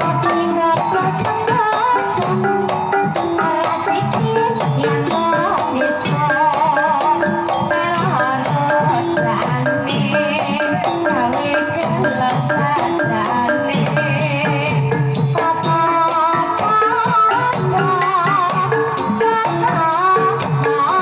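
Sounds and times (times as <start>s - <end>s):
hand drum: 0.0s - 21.0s.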